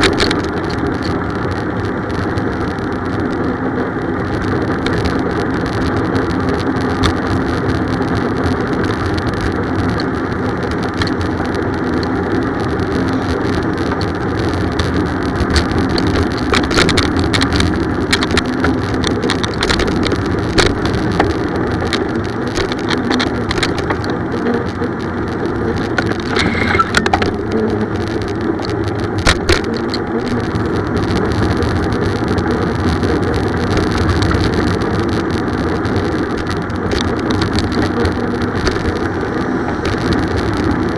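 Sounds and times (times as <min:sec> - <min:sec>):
bicycle clicks and rattles: 0:00.0 - 0:40.9
bicycle road noise rushing: 0:00.0 - 0:40.9.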